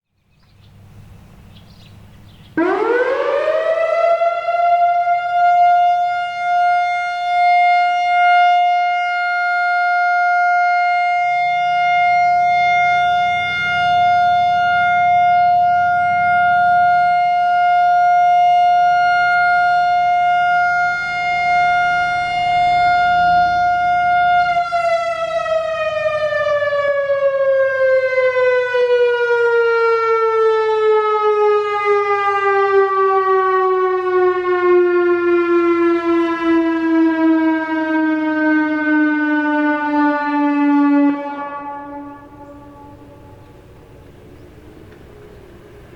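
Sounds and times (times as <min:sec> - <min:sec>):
outdoor warning siren: 0:00.7 - 0:45.9.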